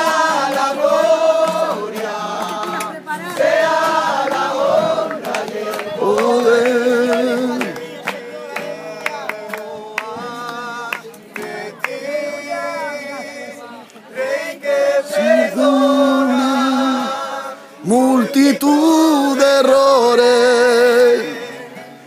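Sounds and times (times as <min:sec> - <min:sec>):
group singing worship chorus: 0:00.0 - 0:22.0.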